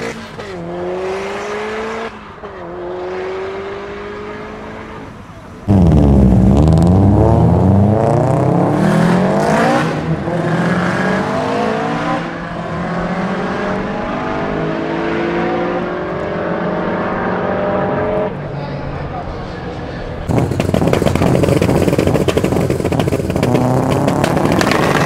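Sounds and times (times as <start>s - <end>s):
turbocharged engines accelerating hard: 0.0s - 25.0s.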